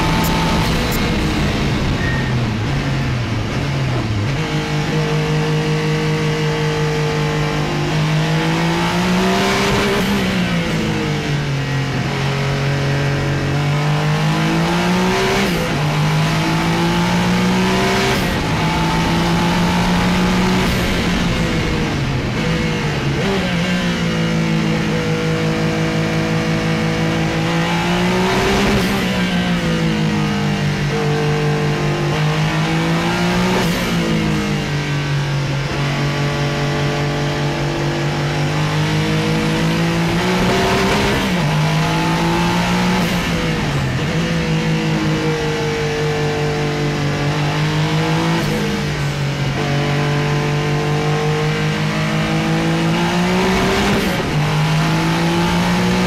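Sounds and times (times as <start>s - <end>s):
race car engine at full speed: 0.0s - 56.0s.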